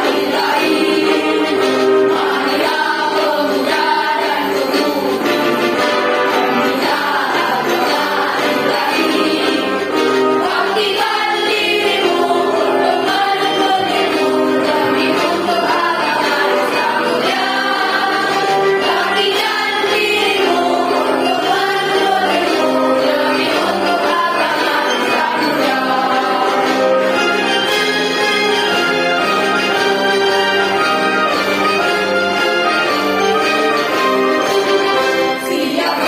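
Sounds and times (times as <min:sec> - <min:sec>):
children's choir singing: 0:00.0 - 0:36.0
musical accompaniment: 0:00.0 - 0:36.0.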